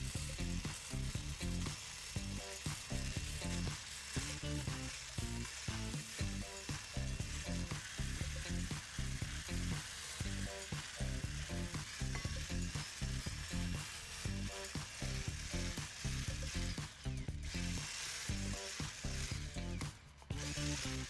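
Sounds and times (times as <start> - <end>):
quiet background music: 0.0 - 21.0.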